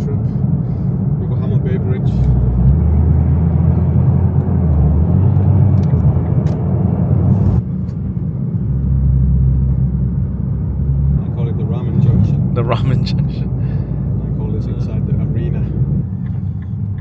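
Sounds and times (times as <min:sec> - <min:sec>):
car cabin engine and tyre drone: 0:00.0 - 0:17.0.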